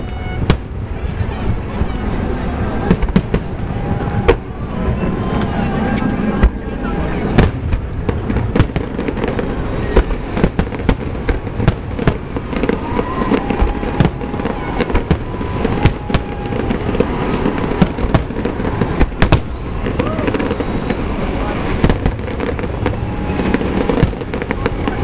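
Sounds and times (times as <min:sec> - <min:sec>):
rumble of explosions: 0:00.0 - 0:25.0.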